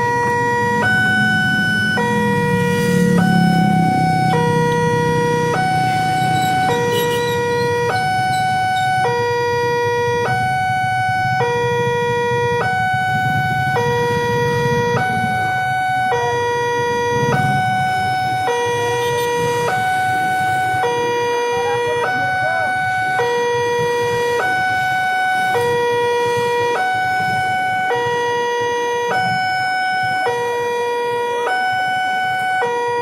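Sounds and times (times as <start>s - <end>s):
two-tone level-crossing siren: 0.0s - 33.0s.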